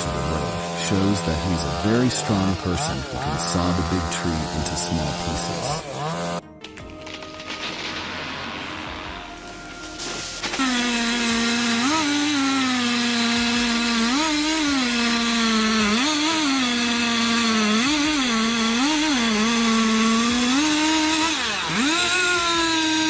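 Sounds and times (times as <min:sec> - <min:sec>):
chainsaw running: 0:00.0 - 0:06.5, 0:07.1 - 0:23.0.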